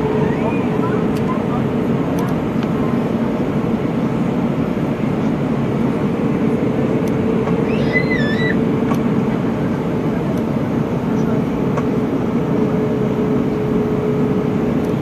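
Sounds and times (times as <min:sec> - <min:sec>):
airliner drone in flight: 0:00.0 - 0:15.0.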